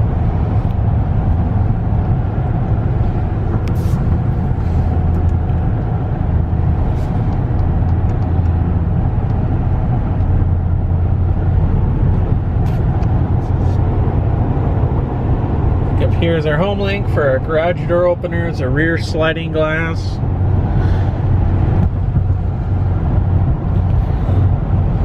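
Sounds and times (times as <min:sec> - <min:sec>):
truck engine droning: 0:00.0 - 0:25.0
tyres on the road: 0:00.0 - 0:25.0.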